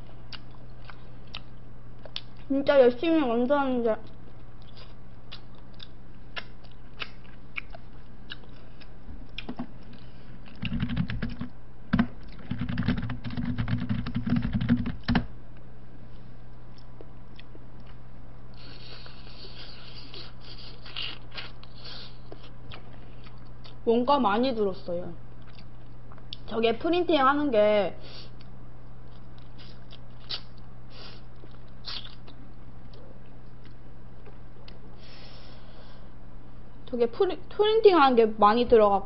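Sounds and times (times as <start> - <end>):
eating and handling noise: 0.0 - 2.7, 3.3 - 23.8, 25.3 - 26.5, 28.1 - 36.0
low electrical hum: 0.0 - 39.0.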